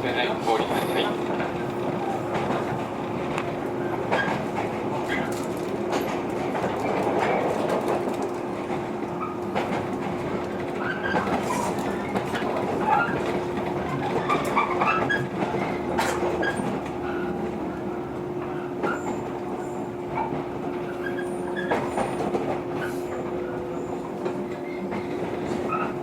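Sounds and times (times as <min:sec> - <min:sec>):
train running noise with hum: 0:00.0 - 0:26.0.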